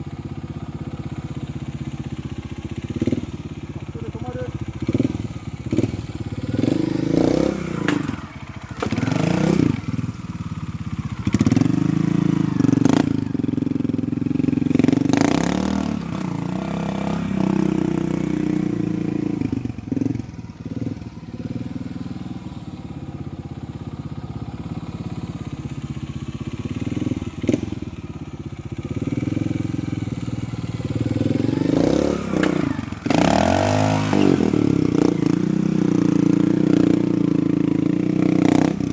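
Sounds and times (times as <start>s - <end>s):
motorcycle engine throttle blips: 0.0s - 38.9s.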